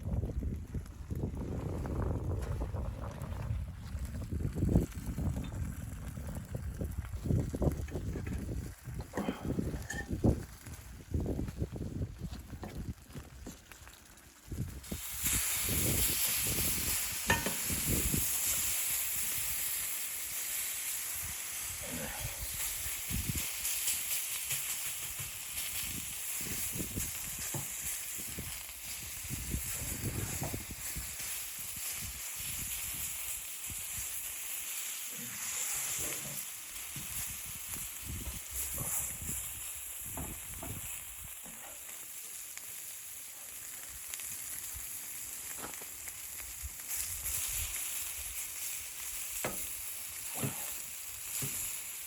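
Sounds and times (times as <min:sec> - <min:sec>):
sizzling hiss: 0:04.0 - 0:52.0.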